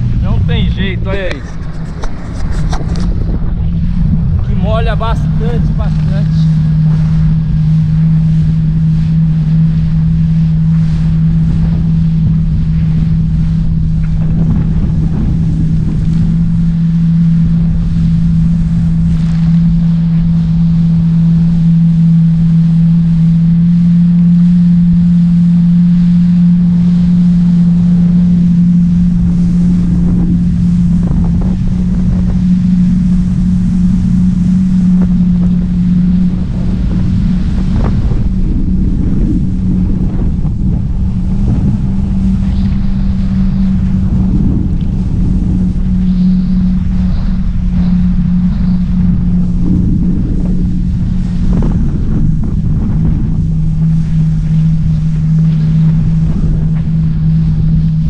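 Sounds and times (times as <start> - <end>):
jet ski engine droning: 0.0 - 58.0
water rushing past hull: 0.0 - 58.0
wind buffeting microphone: 0.0 - 58.0.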